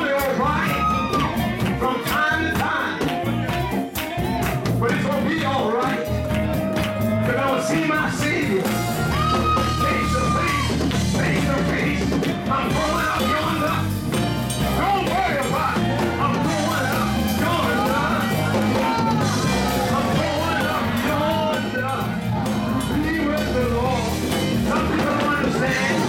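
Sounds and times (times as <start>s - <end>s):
people singing: 0.0s - 14.0s, 14.8s - 26.0s
driving drum beat: 0.0s - 26.0s
live church music: 0.0s - 26.0s.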